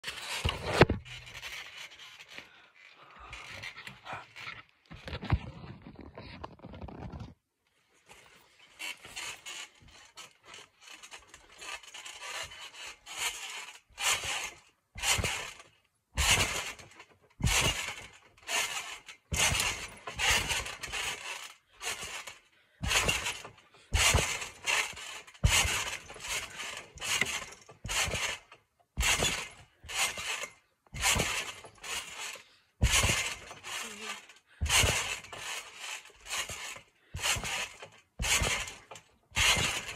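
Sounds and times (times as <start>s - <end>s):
trampoline mat and springs bouncing: 0.0s - 2.5s, 3.1s - 7.3s, 8.0s - 39.9s.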